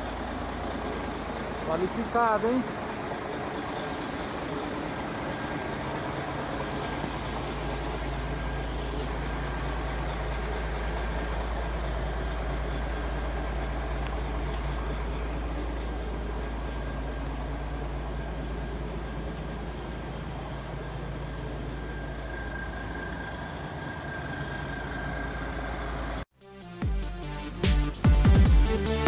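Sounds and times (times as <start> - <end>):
truck diesel engine idling: 0.0 - 26.3.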